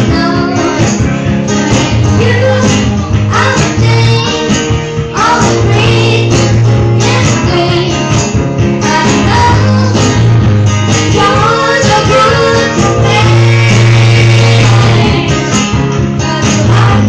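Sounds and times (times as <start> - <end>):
acoustic guitar strumming: 0.0 - 17.0
people singing into microphones: 0.0 - 17.0.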